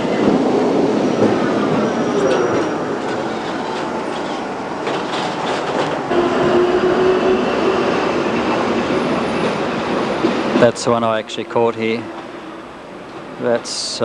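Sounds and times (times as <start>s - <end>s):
tram wheels clattering over rails: 0.0s - 14.0s.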